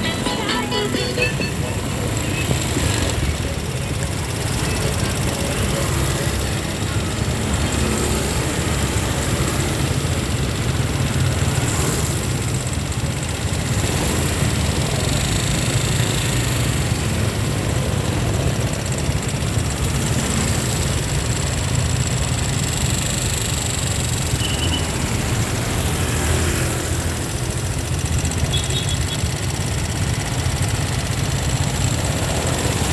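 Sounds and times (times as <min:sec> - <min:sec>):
street traffic rumble: 0:00.0 - 0:32.9.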